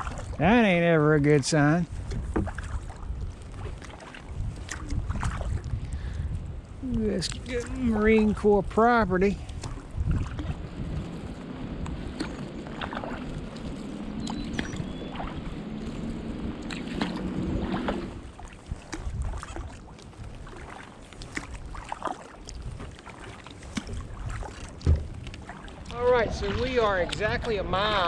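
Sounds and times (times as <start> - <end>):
paddle dipping and dripping: 0.0 - 28.0
water sloshing along hull: 0.0 - 28.0.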